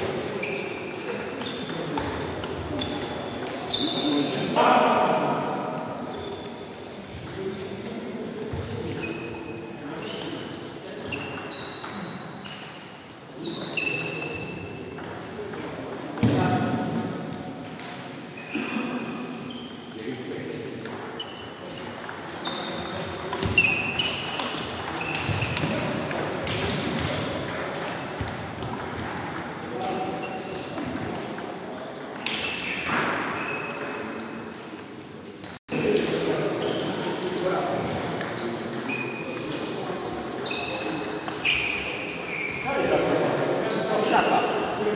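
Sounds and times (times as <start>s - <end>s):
murmur of voices: 0.0s - 32.2s, 33.3s - 44.9s.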